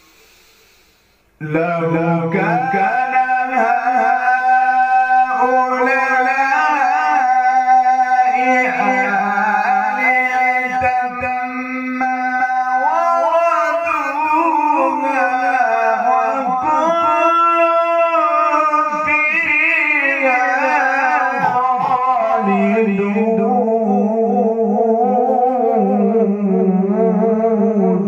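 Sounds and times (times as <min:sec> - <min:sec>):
man chanting melodically: 0:01.4 - 0:28.0.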